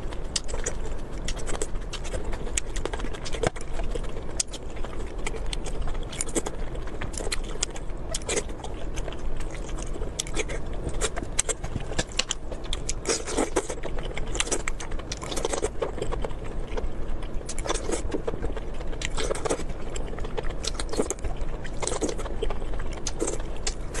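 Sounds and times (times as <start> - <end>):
chewing and mouth smacking: 0.0 - 24.0.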